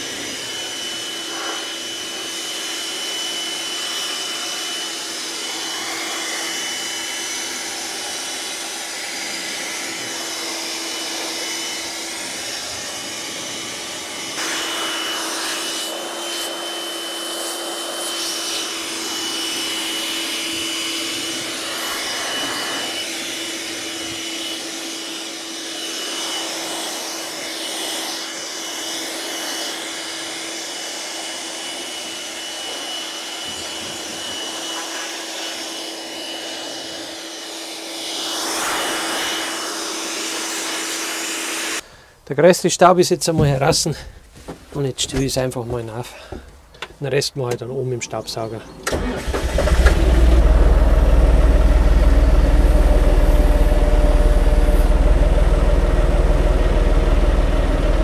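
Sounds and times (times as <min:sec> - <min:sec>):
handheld blower running: 0:00.0 - 0:42.1, 0:48.8 - 0:58.0.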